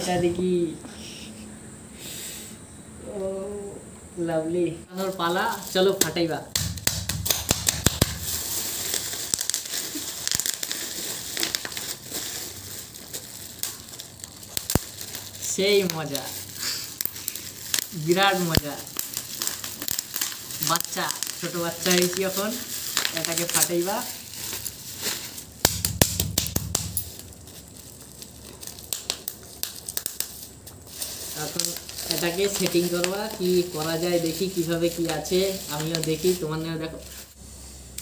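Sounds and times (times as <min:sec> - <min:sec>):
bubble wrap crinkling: 0:05.0 - 0:37.4
bubble wrap popping: 0:05.0 - 0:37.4.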